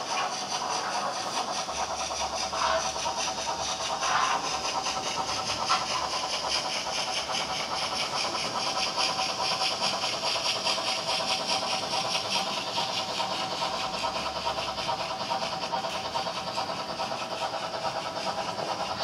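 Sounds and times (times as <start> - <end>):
model train motor whir: 0.0 - 19.0
wheels clicking on rails: 0.0 - 19.0.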